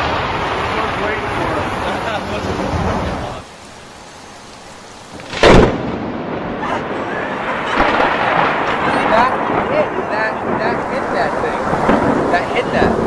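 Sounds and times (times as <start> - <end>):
loud thunder crack: 0.0 - 3.4, 5.1 - 13.0
rain hiss: 0.0 - 13.0.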